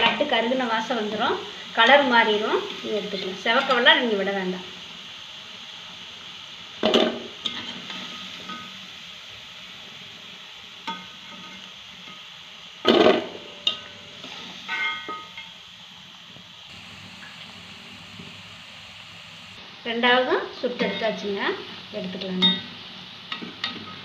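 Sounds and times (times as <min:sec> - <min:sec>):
batter deep-frying in oil: 0:00.0 - 0:24.0.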